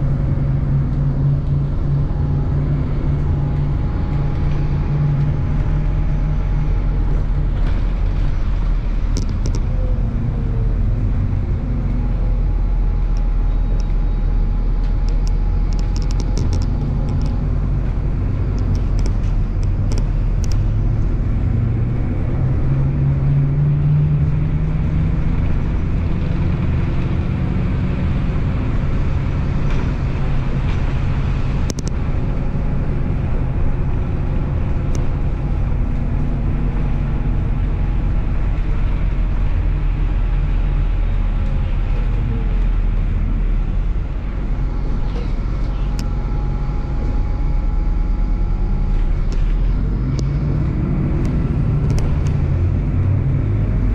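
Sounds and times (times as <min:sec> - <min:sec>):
bus engine hum: 0:00.0 - 0:53.9
road noise: 0:00.0 - 0:53.9.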